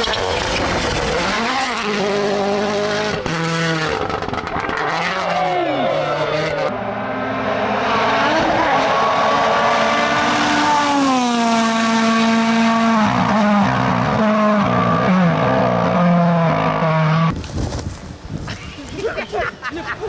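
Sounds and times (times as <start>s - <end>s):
car engine revving: 0.0s - 17.3s.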